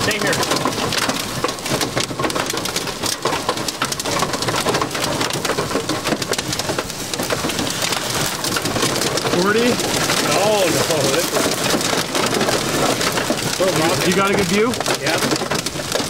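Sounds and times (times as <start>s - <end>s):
heavy rain beating on a vehicle: 0.0s - 16.0s.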